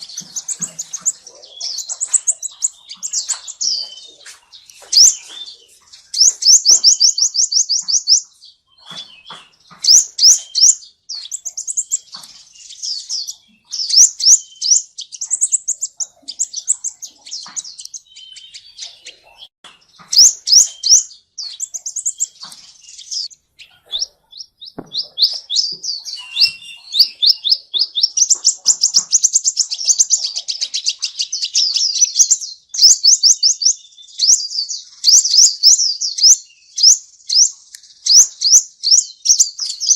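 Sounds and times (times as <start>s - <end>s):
small cage birds chirping: 0.0s - 39.9s.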